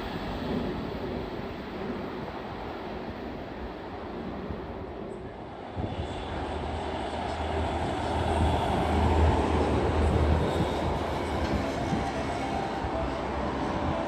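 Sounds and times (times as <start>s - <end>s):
train approaching rumble: 0.0s - 14.0s.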